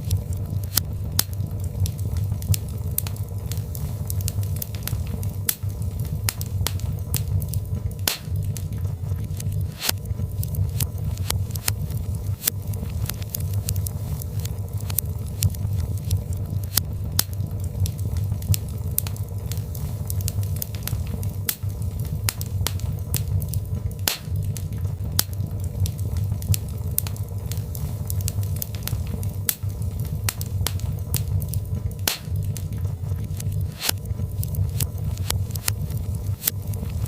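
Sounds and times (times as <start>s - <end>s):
fire crackles and pops: 0.0s - 37.0s
low rumble of flames: 0.0s - 37.0s.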